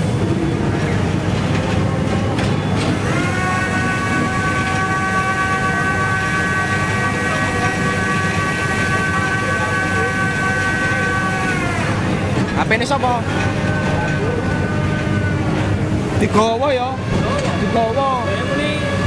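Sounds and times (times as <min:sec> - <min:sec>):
diesel engine rumbling: 0:00.0 - 0:19.0
high hydraulic whine: 0:00.0 - 0:19.0.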